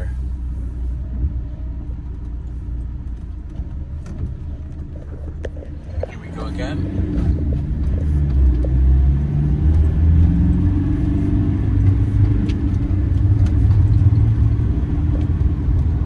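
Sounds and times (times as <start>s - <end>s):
road noise: 0.0s - 16.0s
van engine accelerating: 0.0s - 16.0s.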